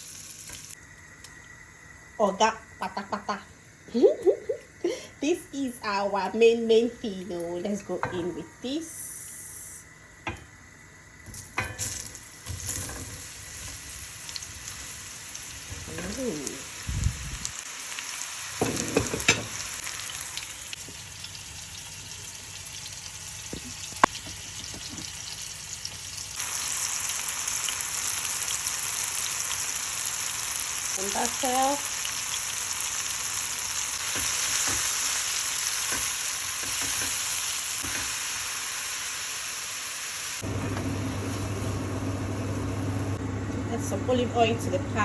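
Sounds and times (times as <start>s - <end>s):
food sizzling in a pan: 0.0s - 43.2s.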